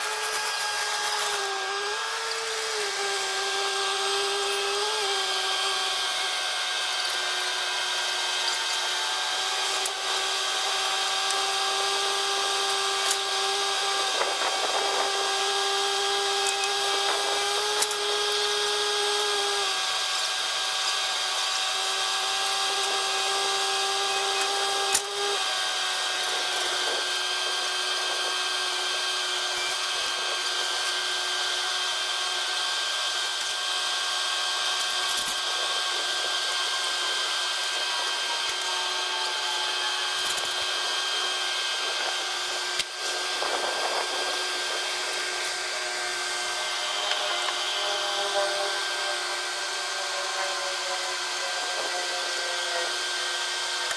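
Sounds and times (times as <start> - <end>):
track loader engine whining: 0.0 - 53.9.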